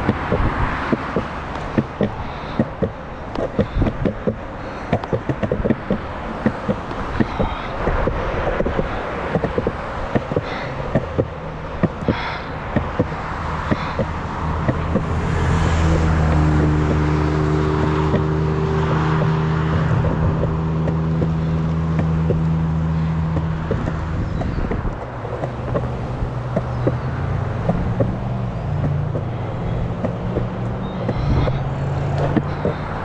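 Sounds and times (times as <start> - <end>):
cars passing: 0.0 - 33.0
skateboard wheels rolling on concrete: 0.0 - 33.0
wheels clicking over pavement seams: 0.0 - 33.0.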